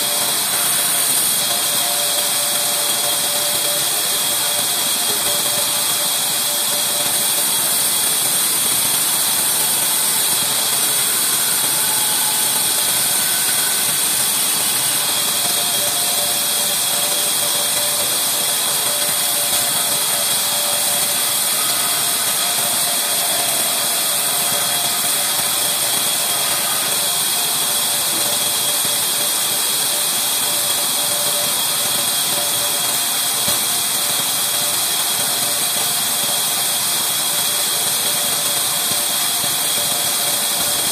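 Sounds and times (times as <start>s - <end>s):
band saw cutting wood: 0.0s - 40.9s.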